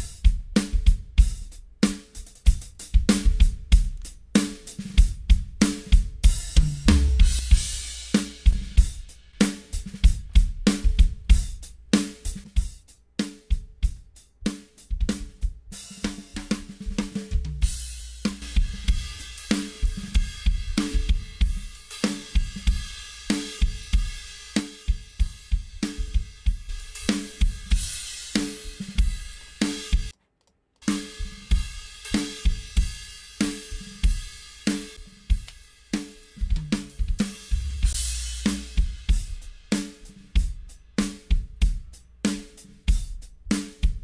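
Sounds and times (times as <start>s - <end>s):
drum kit playing: 0.0s - 30.2s, 30.8s - 44.0s.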